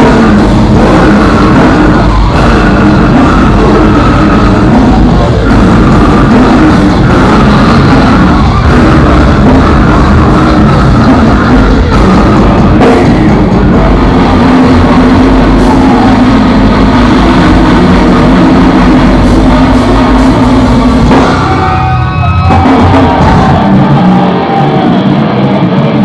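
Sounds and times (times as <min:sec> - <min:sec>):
death metal band playing live: 0:00.0 - 0:26.0.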